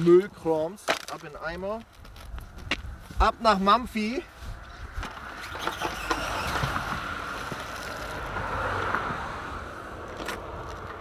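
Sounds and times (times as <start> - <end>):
wind buffeting microphone: 1.5 - 11.0.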